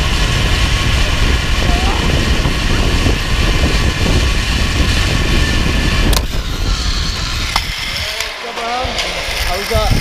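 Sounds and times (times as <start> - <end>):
wind buffeting microphone: 0.0 - 10.0
zip-wire trolley whine: 0.0 - 10.0.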